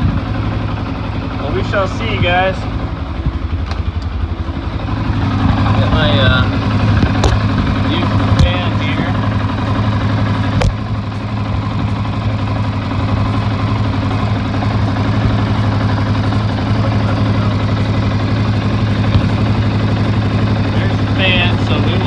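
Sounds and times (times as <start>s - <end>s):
atv engine idling: 0.0s - 22.0s.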